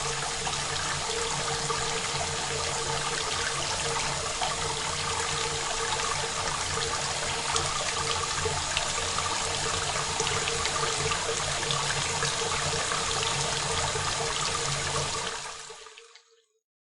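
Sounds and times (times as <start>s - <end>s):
steady rain patter: 0.0s - 15.7s.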